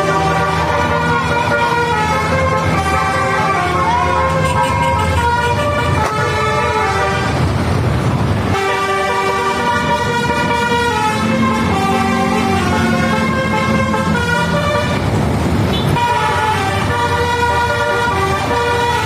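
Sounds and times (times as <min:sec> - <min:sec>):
multi-tone musical air horn: 0:00.0 - 0:07.4, 0:08.5 - 0:15.0, 0:15.7 - 0:19.0
rushing noise: 0:00.0 - 0:19.0.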